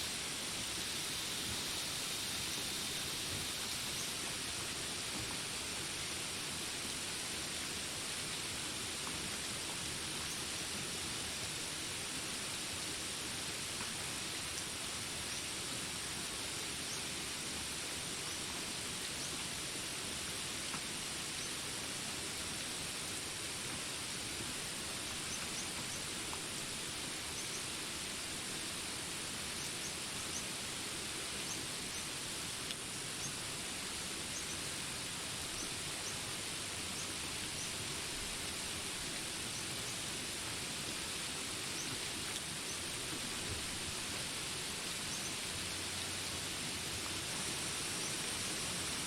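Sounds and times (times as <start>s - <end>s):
steady rain hiss: 0.0s - 49.0s.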